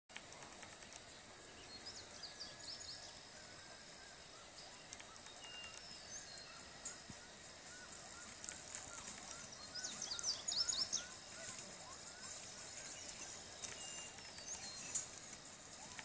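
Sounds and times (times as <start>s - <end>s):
bird chirps: 1.0s - 16.0s.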